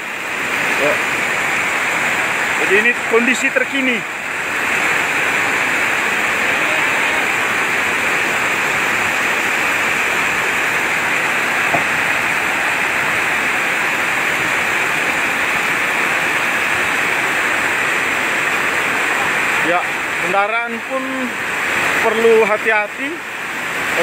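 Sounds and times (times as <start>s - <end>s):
floodwater rushing: 0.0s - 24.0s
heavy rain: 0.0s - 24.0s.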